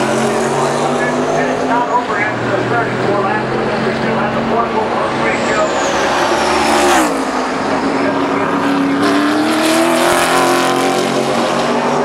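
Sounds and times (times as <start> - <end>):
race car engine passing: 0.0 - 12.0.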